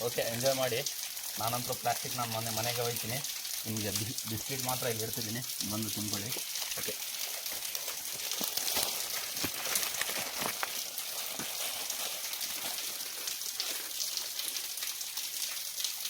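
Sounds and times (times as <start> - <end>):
falling water spattering: 0.0 - 16.0.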